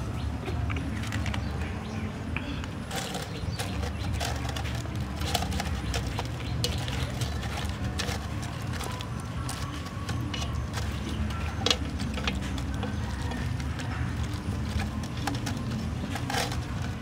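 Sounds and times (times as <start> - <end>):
vegetable pieces knocking in metal pot: 2.9 - 17.0.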